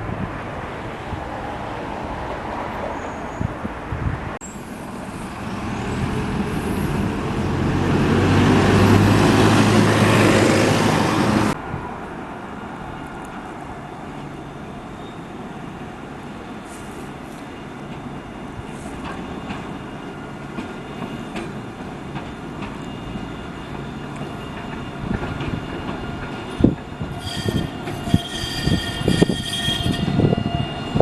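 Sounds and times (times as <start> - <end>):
steady traffic background: 0.0 - 31.0.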